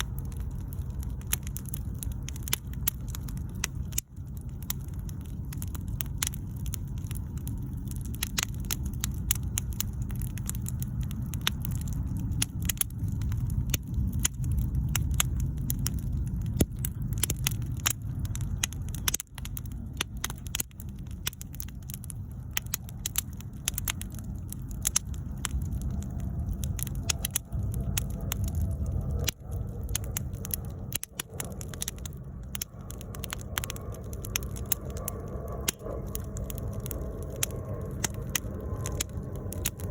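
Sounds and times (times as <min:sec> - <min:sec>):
bonfire crackling and popping: 0:00.0 - 0:39.9
low rumble: 0:00.0 - 0:39.9.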